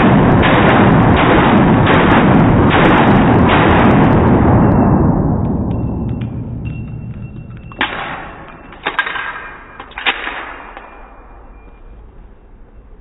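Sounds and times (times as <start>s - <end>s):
slowed-down pistol shot echoing: 0.0s - 11.0s.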